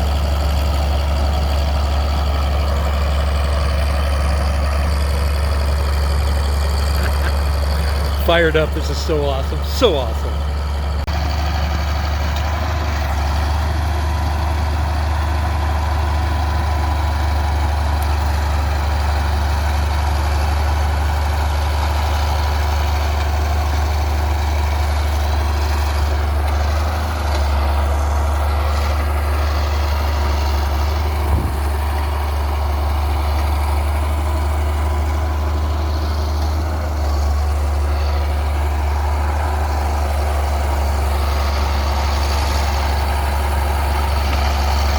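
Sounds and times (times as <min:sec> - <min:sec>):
diesel engine deep drone: 0:00.0 - 0:44.9.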